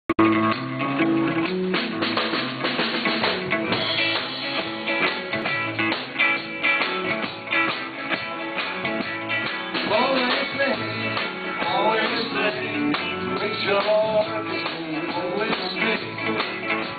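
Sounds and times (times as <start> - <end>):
drum kit: 0.1 - 16.9
live band playing: 0.2 - 16.9
strummed guitar: 0.2 - 16.9.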